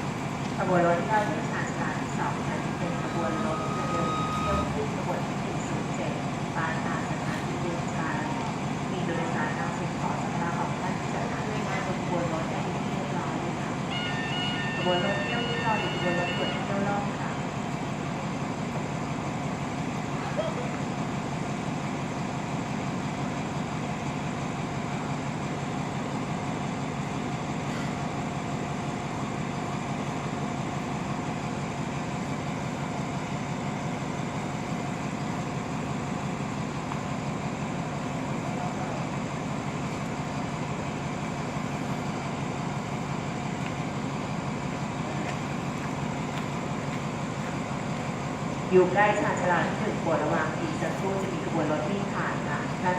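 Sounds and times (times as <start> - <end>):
diesel train idling hum: 0.0 - 52.9.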